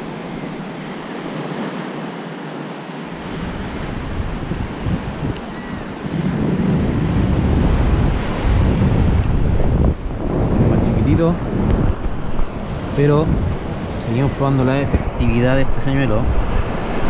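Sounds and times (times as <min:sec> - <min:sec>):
surf breaking on beach: 0:00.0 - 0:17.0
wind buffeting microphone: 0:03.2 - 0:17.0.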